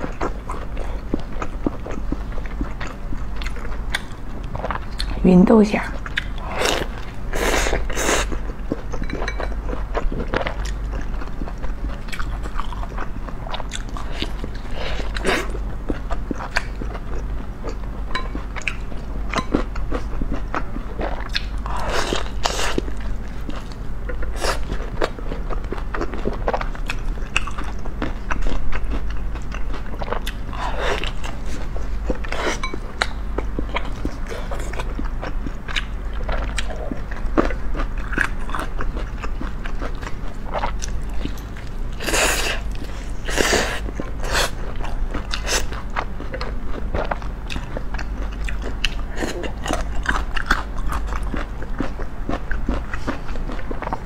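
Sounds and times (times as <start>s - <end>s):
chewing and biting: 0.0s - 5.2s, 6.0s - 54.0s
steady low hum: 0.0s - 54.0s.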